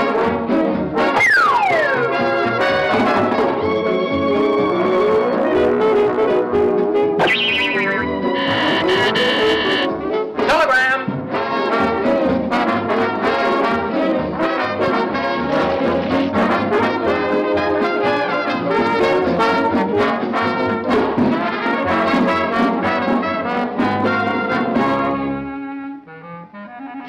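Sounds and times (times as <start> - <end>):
orchestral brass cartoon music: 0.0 - 27.0.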